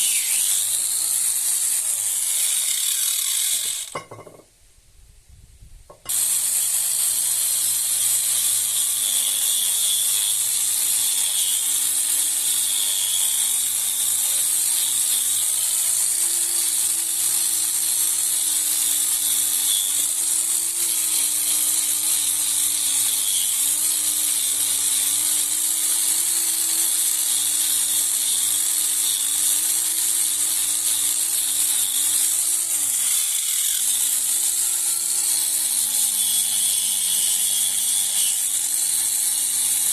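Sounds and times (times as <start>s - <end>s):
electric power tool running: 0.0s - 4.4s, 6.0s - 39.9s.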